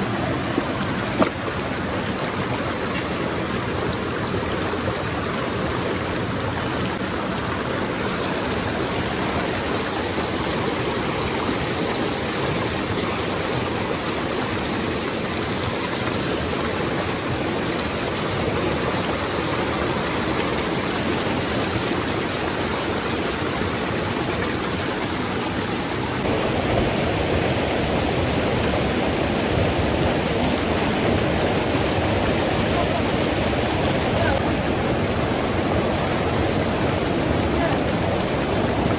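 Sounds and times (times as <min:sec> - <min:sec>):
river rushing over boulders: 0:00.0 - 0:38.9.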